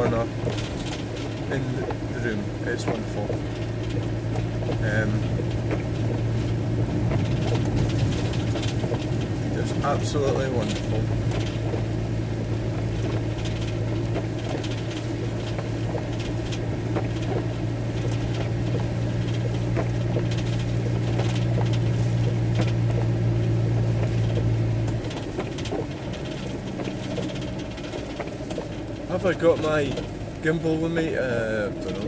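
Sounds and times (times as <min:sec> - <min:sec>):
raindrops ticking on van roof: 0:00.0 - 0:32.0.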